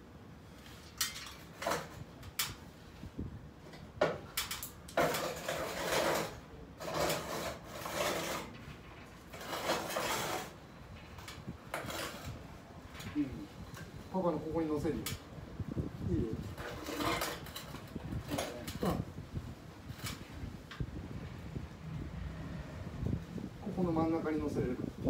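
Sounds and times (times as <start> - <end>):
air-conditioner unit scraping: 0.4 - 24.9.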